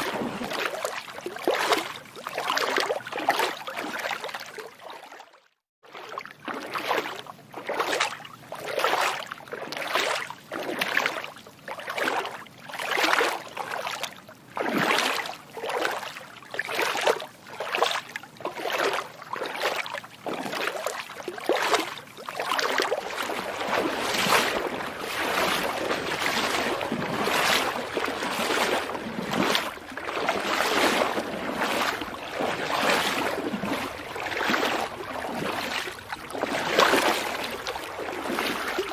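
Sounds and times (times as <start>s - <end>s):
footsteps splashing in shallow water: 0.0s - 38.9s.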